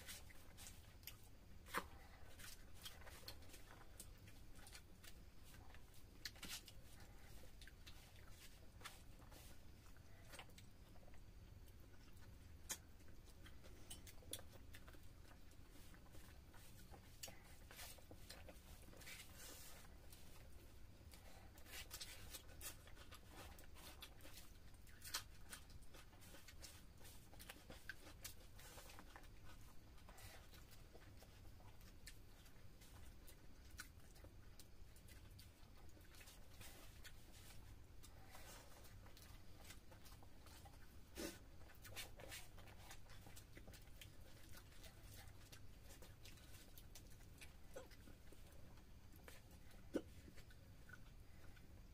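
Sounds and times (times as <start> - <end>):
chewing and lip-smacking: 0.0 - 51.9
people eating by hand: 0.0 - 51.9.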